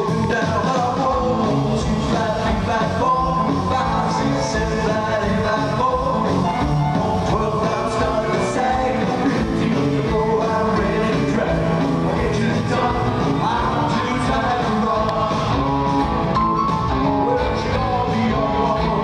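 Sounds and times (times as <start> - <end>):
live rock band: 0.0 - 19.0.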